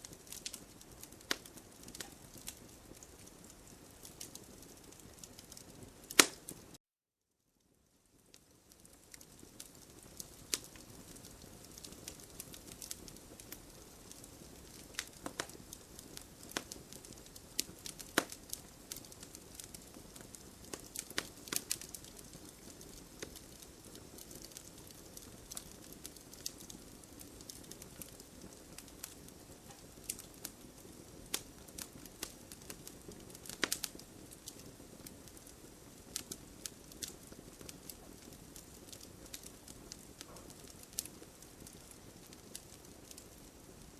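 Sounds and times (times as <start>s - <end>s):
burning wood crackling and popping: 0.0s - 6.8s, 8.1s - 43.9s
soft hiss of flames: 0.0s - 6.8s, 7.4s - 43.9s.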